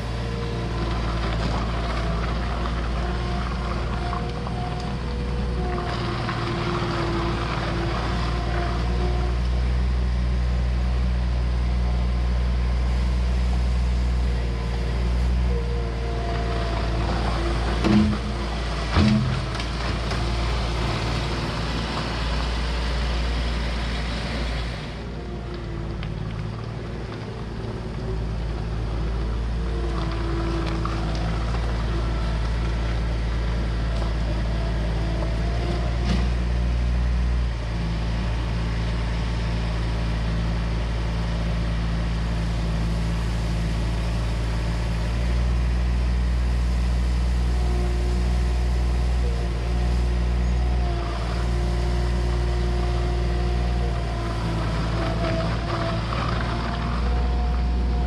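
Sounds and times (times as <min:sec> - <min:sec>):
loader diesel engine running: 0:00.0 - 0:58.0.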